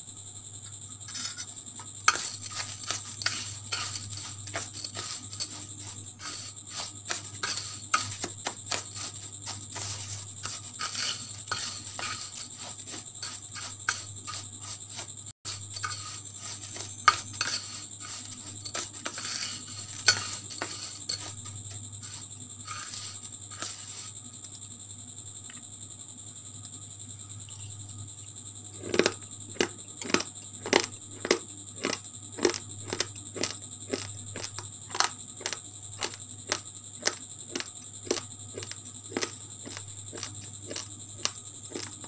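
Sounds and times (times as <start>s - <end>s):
spoon stirring rice on metal plate: 1.0s - 24.1s, 28.8s - 41.9s.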